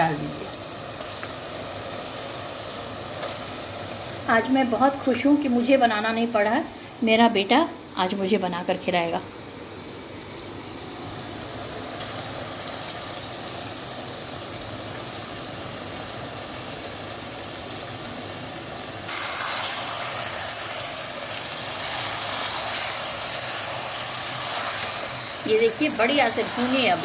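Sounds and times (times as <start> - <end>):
chicken sizzling in a pot: 0.0 - 6.5, 9.4 - 27.0.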